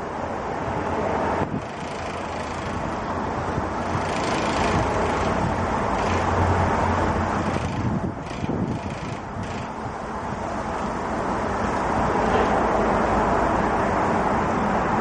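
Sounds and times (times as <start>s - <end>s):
rushing wind noise: 0.0s - 15.0s.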